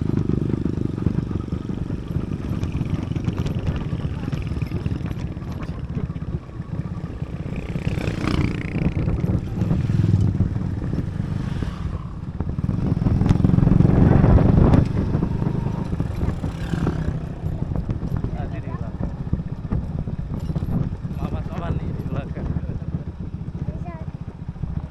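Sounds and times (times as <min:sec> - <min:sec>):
motorcycle engine and road rumble: 0:00.0 - 0:24.9.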